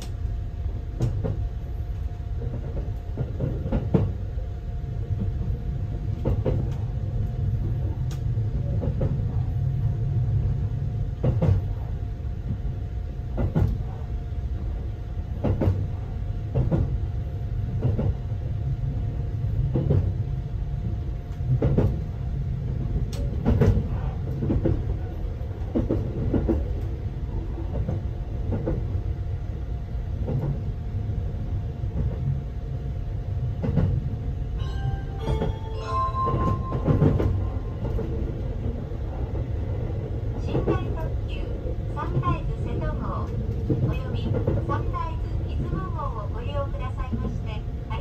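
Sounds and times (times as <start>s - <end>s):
train interior rumble: 0.0s - 48.0s.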